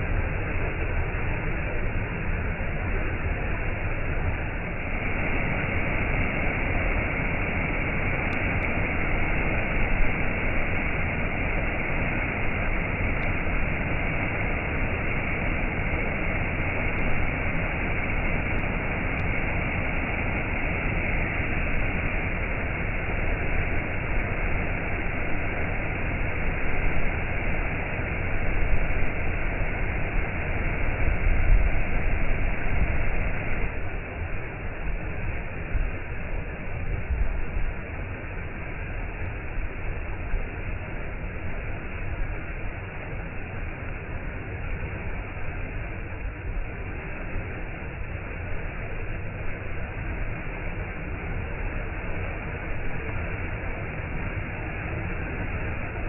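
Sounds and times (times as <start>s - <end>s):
waterfall rushing: 0.8s - 56.0s.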